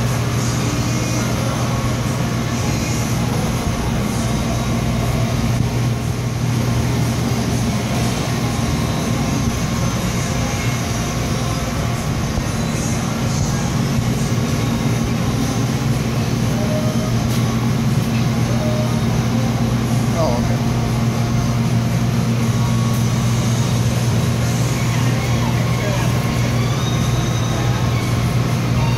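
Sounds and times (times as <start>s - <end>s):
refrigerator low mechanical hum: 0.0s - 28.9s.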